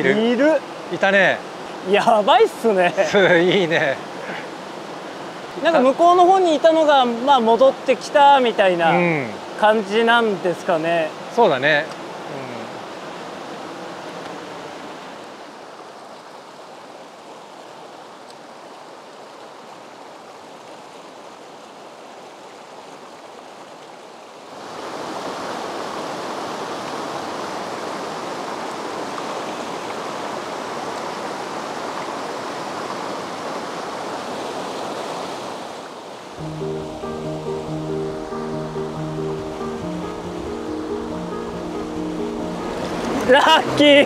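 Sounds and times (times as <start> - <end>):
stream rushing over rocks: 0.0 - 44.0.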